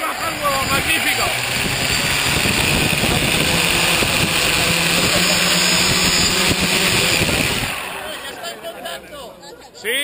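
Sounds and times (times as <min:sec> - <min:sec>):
drone propellers whirring: 0:00.0 - 0:09.1.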